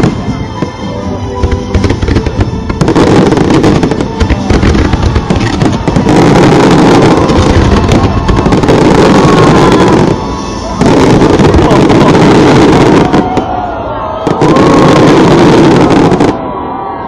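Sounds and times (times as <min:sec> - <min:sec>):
aerial fireworks bangs: 0:01.4 - 0:13.6, 0:14.2 - 0:16.4.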